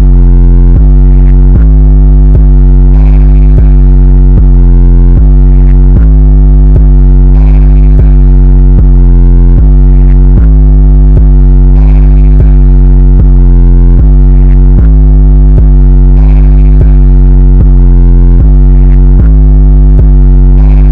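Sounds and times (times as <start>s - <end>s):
distorted synthesizer bass: 0.0s - 20.9s
sharp electronic beat: 0.0s - 20.9s
sustained synth chords: 0.0s - 20.9s.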